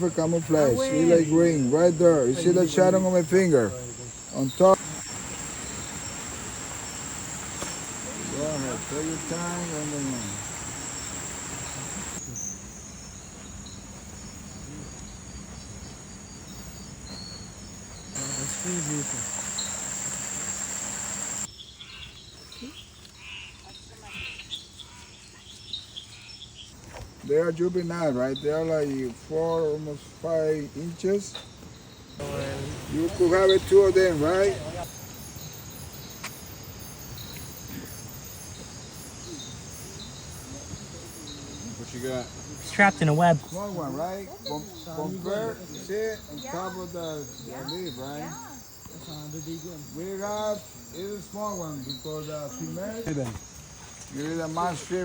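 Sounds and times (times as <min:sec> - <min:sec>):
insect chirps: 0:00.0 - 0:55.0
insects trilling: 0:00.0 - 0:55.0.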